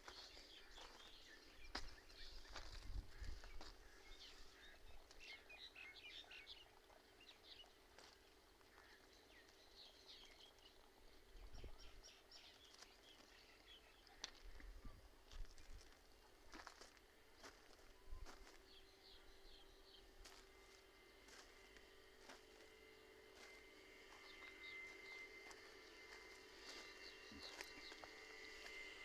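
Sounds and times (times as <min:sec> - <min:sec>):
faint songbirds chirping: 0:00.0 - 0:29.0
faint steady hum: 0:00.0 - 0:29.0.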